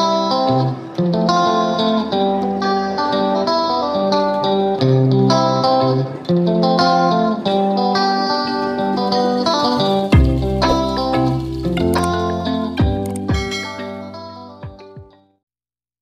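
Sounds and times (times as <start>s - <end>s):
plucked guitar notes: 0.0s - 15.2s.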